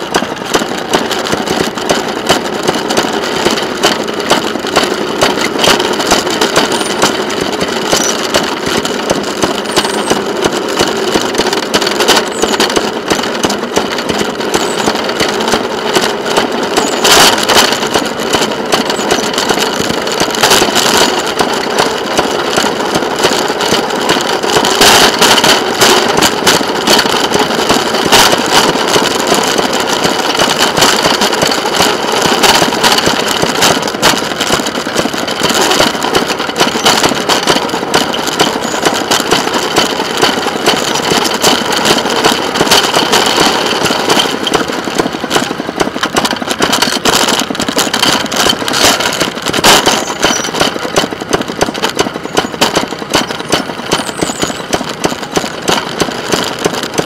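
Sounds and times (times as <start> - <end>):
rail speeder engine running: 0.0 - 57.0
sharp track clacks: 0.0 - 57.0.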